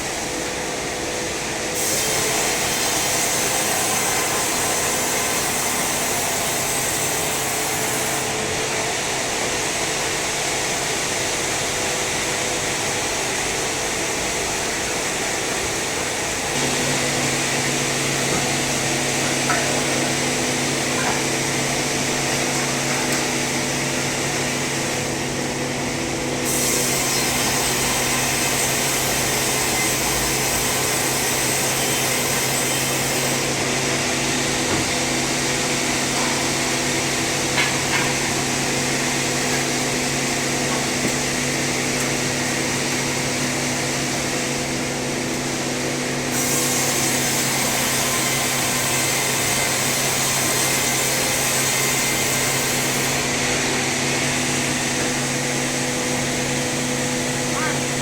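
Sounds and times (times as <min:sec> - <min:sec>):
saw cutting log: 0:01.8 - 0:09.0, 0:16.5 - 0:58.0.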